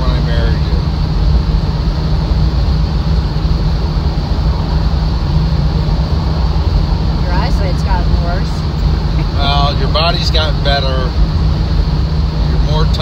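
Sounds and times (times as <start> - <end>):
car engine hum: 0.0 - 13.0
road and wind noise: 0.0 - 13.0.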